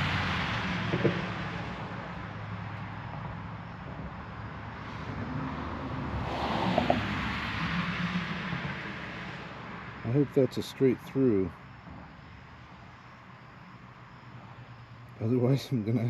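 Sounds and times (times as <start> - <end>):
rushing wind and road noise: 0.0 - 16.0.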